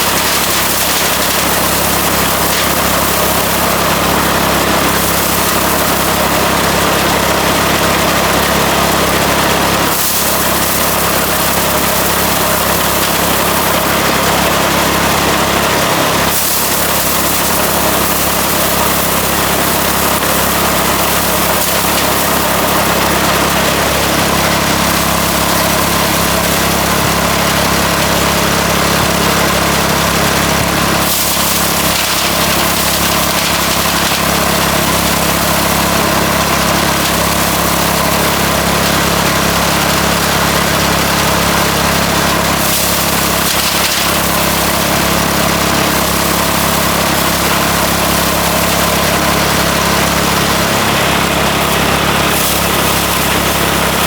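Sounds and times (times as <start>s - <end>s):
threshing machine running: 0.0s - 54.0s.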